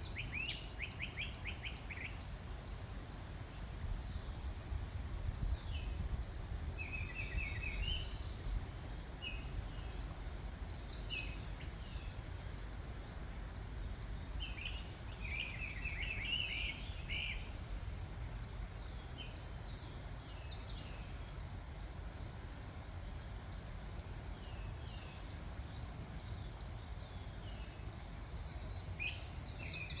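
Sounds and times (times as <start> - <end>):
songbirds warbling: 0.0 - 4.6, 5.3 - 30.0.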